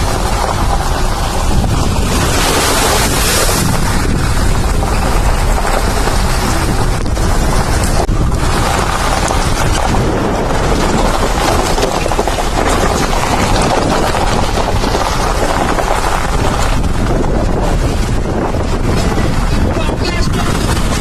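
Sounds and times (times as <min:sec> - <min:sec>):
vehicle driving rumble: 0:00.0 - 0:21.0
wind noise on microphone: 0:00.0 - 0:21.0.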